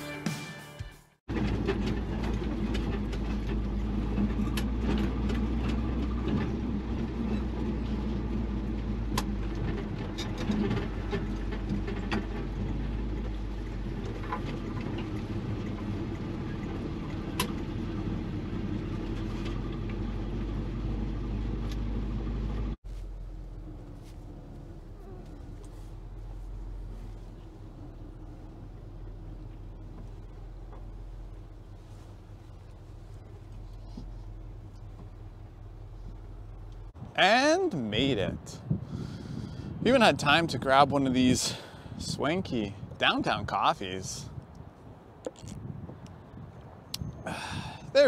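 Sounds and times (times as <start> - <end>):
road rumble: 1.2 - 48.0
truck engine running: 1.3 - 42.0.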